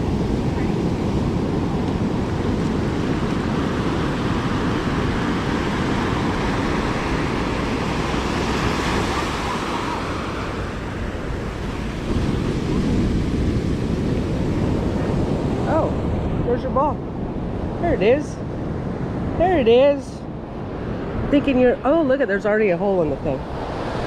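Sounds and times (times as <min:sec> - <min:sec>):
ocean surf washing on beach: 0:00.0 - 0:24.0
wind rumbling on microphone: 0:00.0 - 0:24.0.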